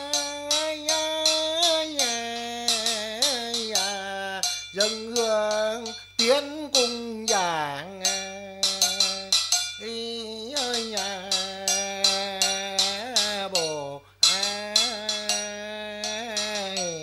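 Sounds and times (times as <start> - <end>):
clacking percussion: 0.0 - 17.0
man chanting: 0.0 - 17.0.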